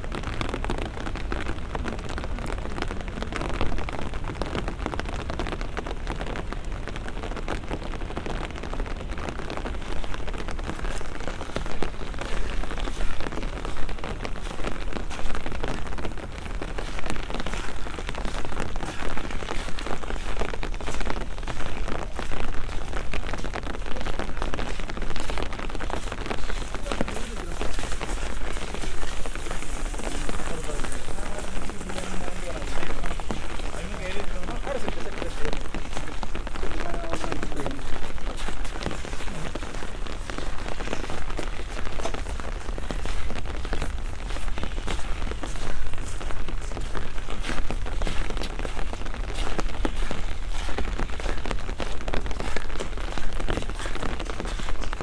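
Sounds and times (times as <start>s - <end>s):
rain drops hitting: 0.0s - 55.0s.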